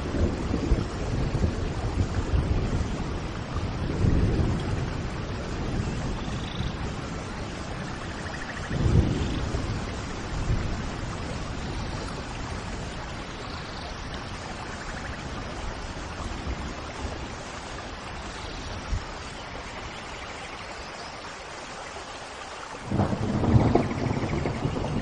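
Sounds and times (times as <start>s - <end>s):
rain hiss: 0.0s - 25.0s.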